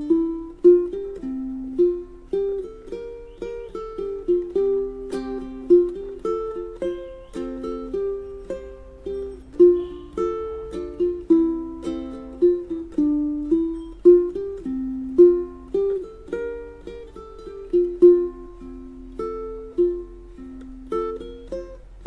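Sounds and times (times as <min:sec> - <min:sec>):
ukulele plucked melody: 0:00.0 - 0:22.0.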